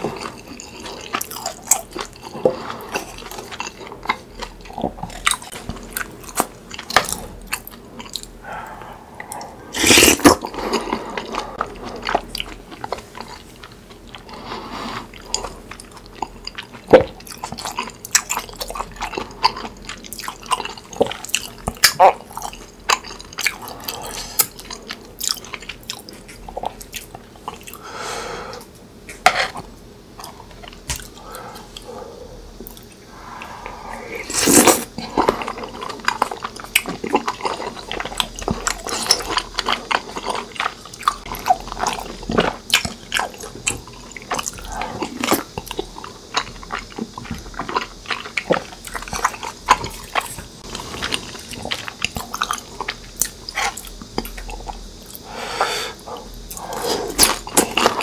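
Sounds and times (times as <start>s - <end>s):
close-miked chewing and mouth sounds: 0.0s - 27.8s, 30.2s - 58.0s.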